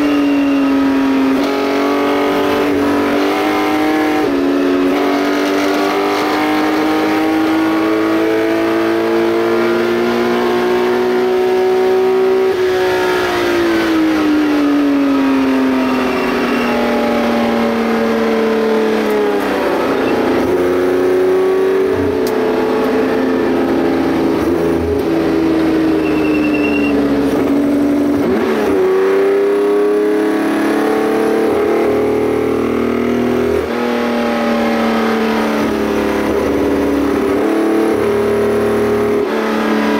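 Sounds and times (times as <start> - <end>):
racing car engine downshifting: 0.0 - 39.9.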